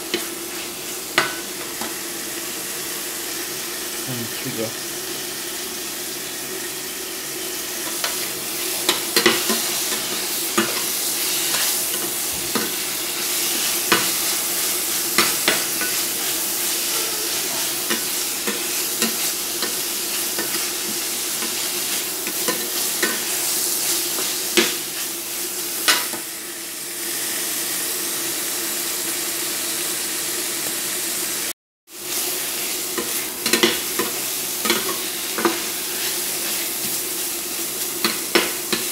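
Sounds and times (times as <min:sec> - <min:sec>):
food sizzling in hot oil: 0:00.0 - 0:38.9.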